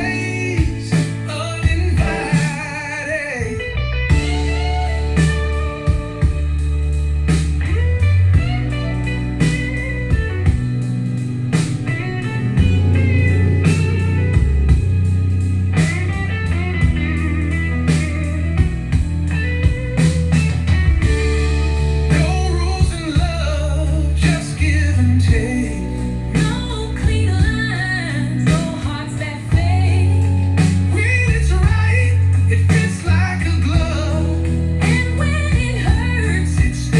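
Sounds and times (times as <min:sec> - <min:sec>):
blues-rock song through speakers: 0:00.0 - 0:36.9.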